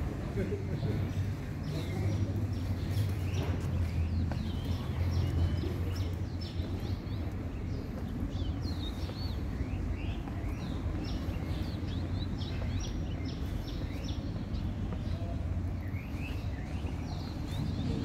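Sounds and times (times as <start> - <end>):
low town background rumble: 0.0 - 18.0
small birds chirping: 0.0 - 18.0.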